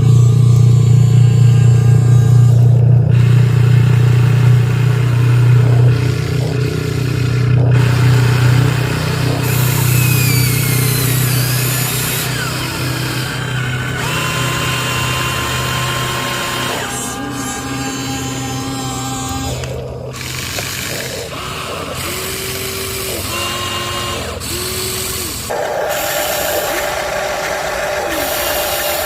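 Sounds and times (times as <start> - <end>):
toy machine engine drone: 0.0 - 29.0
whining electric motor and gears: 0.0 - 29.0.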